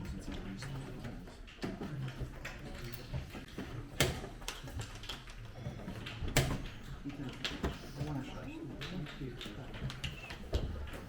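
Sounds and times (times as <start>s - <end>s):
faint background murmur: 0.0s - 11.0s.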